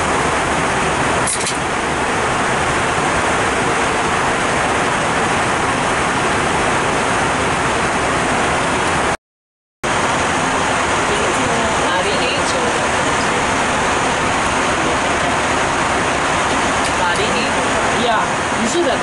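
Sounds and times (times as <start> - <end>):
airliner cabin roar: 0.0 - 9.2, 9.8 - 19.0.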